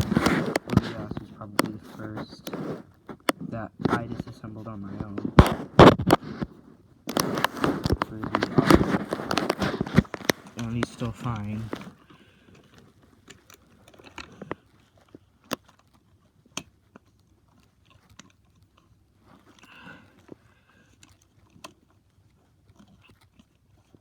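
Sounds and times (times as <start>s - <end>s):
soft scraping rustle: 0.0s - 24.0s.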